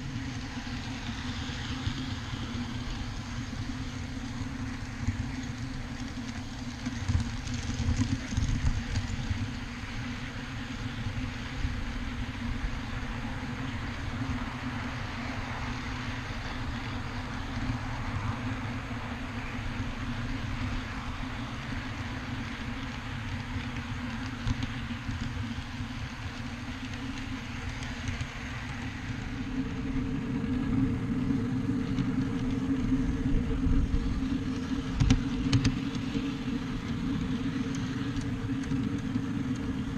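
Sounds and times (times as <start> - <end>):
locomotive drive hum: 0.0 - 39.9
wheels rumbling on rail: 0.0 - 39.9.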